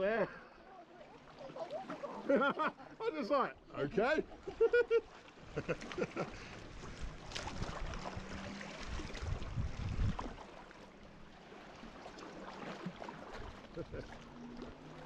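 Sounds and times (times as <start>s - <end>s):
low water sloshing: 0.0s - 15.0s
water splashing around a kayak: 0.0s - 15.0s.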